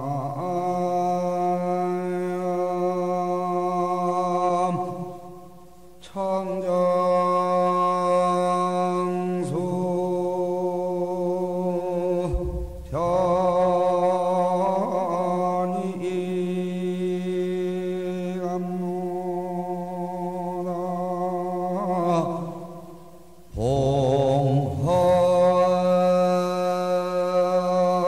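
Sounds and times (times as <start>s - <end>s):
man chanting: 0.0s - 28.0s.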